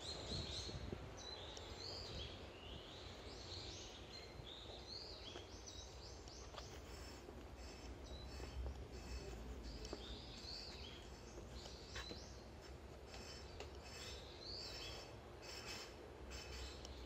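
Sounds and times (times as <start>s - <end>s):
bird chirping: 0.0s - 12.5s, 13.1s - 17.0s.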